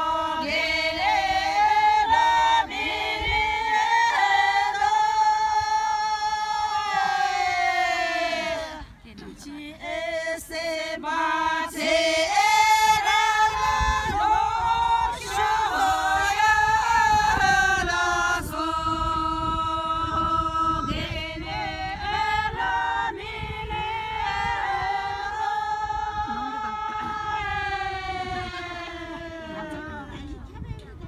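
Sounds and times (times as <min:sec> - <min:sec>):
several voices singing: 0:00.0 - 0:30.5.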